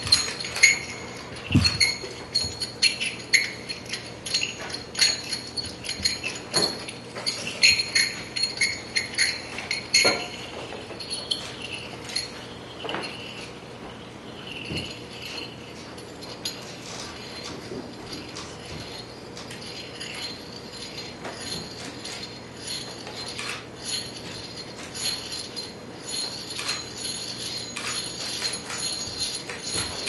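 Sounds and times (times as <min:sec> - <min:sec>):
small objects clinking and rattling: 0:00.0 - 0:13.6, 0:14.3 - 0:30.0.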